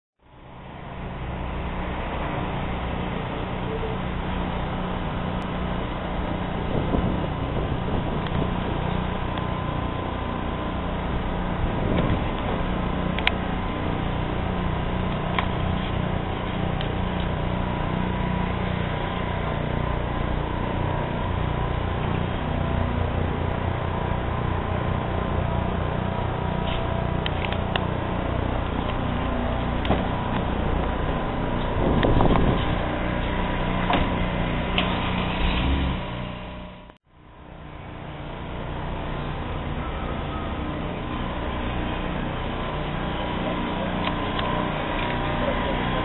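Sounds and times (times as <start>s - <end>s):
machine running with low hum: 0.2s - 46.0s.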